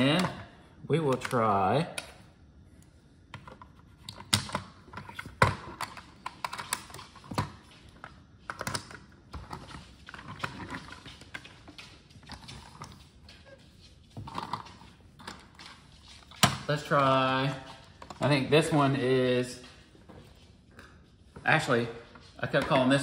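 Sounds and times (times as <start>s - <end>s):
toy cars set on a table: 0.0s - 13.6s, 14.2s - 19.7s.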